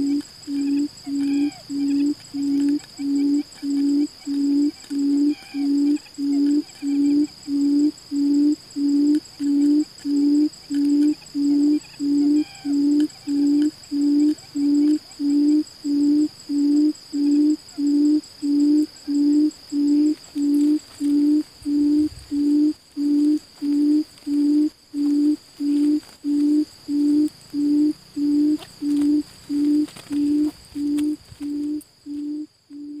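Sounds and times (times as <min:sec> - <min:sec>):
quail hooting: 0:00.0 - 0:33.0
thin steady high whine: 0:00.0 - 0:33.0.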